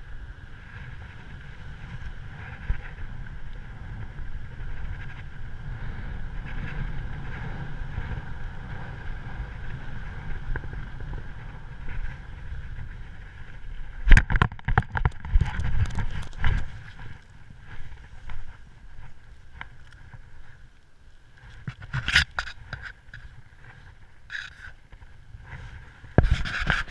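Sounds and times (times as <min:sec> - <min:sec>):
rustling of grass and clothing: 0:00.0 - 0:26.9
wind rushing over microphone: 0:00.0 - 0:26.9.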